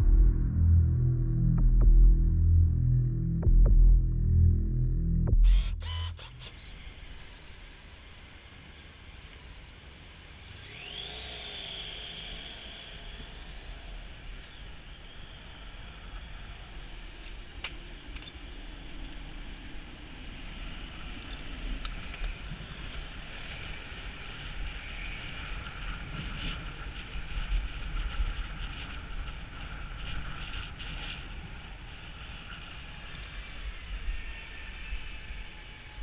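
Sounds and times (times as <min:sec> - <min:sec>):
road noise: 0:05.5 - 0:36.0
traffic: 0:05.5 - 0:36.0.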